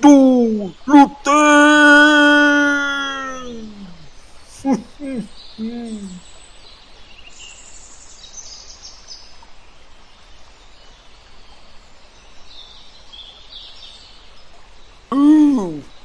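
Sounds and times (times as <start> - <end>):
birds chirping: 0.0 - 16.0
steady hiss: 0.0 - 16.0.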